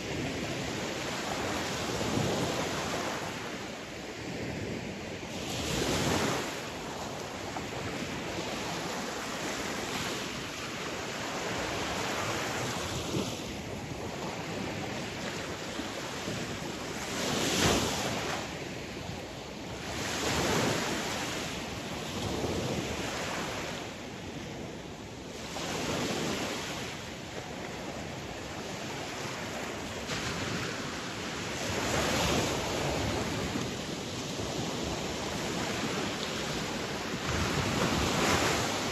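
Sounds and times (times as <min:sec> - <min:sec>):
sea waves breaking on shore: 0:00.0 - 0:38.9
wind rumble on microphone: 0:00.0 - 0:38.9.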